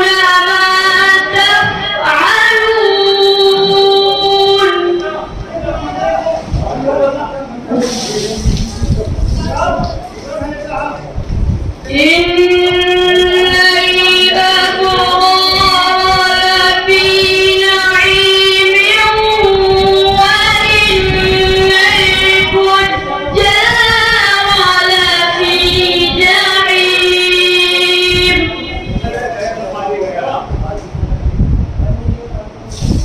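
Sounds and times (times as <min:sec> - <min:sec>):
boy reciting melodically: 0:00.0 - 0:11.0, 0:11.8 - 0:30.4.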